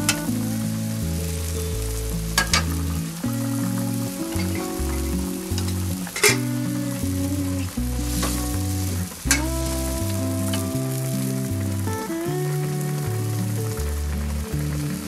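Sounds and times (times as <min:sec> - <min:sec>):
background music with bass: 0:00.0 - 0:15.0
fish sizzling and bubbling in wok: 0:00.0 - 0:15.0.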